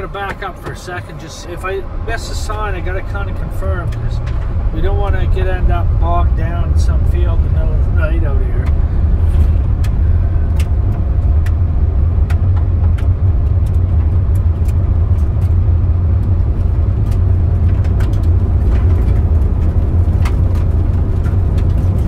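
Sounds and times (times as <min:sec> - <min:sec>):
road and engine rumble: 0:00.0 - 0:22.0.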